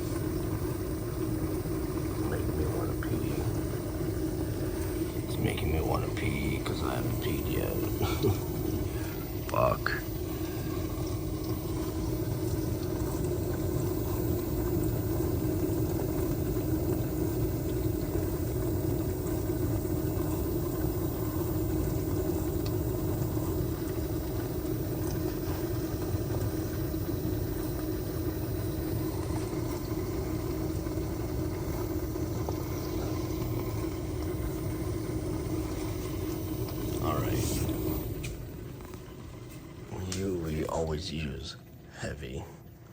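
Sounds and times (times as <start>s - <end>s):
dishwasher motor hum: 0.0s - 42.9s.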